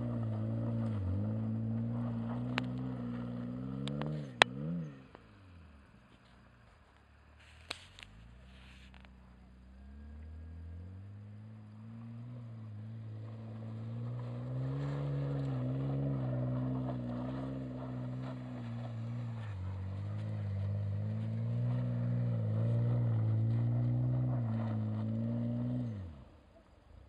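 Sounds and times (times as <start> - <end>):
car engine revving: 0.0 - 5.9, 8.0 - 26.3.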